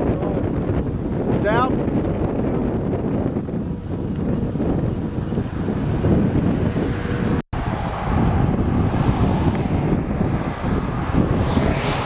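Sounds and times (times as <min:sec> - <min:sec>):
car road and wind noise: 0:00.0 - 0:12.0
wind buffeting microphone: 0:00.0 - 0:12.0.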